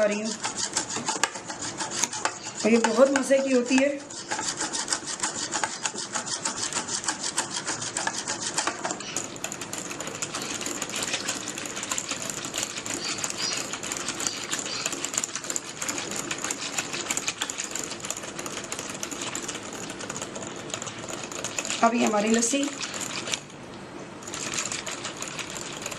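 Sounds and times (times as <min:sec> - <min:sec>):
whisking by hand in a container: 0:00.0 - 0:23.6, 0:24.2 - 0:25.9.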